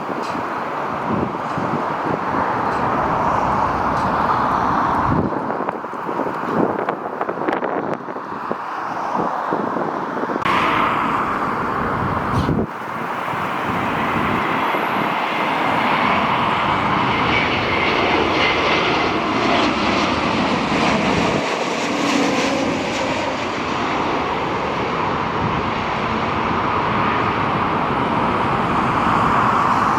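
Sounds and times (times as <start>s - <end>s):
jet engines running: 0.0s - 29.9s.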